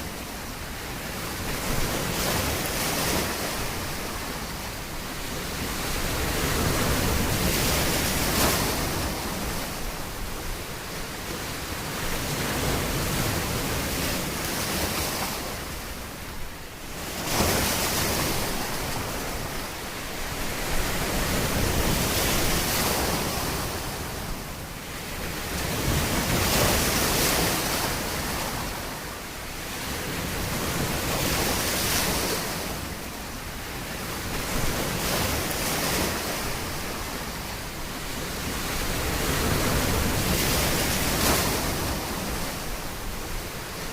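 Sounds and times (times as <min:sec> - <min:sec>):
ocean waves breaking: 0:00.0 - 0:43.9.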